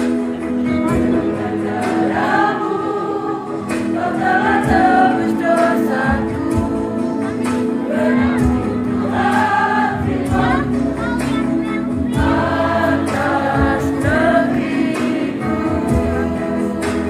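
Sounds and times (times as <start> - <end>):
women's choir singing: 0.8 - 11.2, 11.9 - 17.0.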